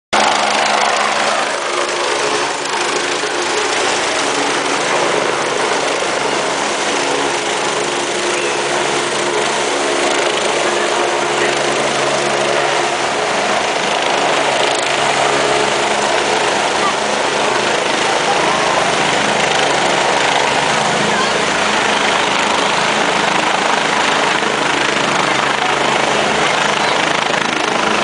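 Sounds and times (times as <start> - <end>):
helicopter flying low: 0.1 - 28.0.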